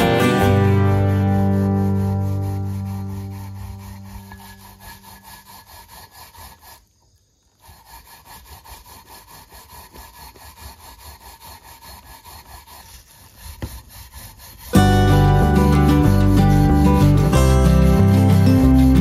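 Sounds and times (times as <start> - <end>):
grating on metal grater: 1.0 - 6.9, 7.6 - 19.0.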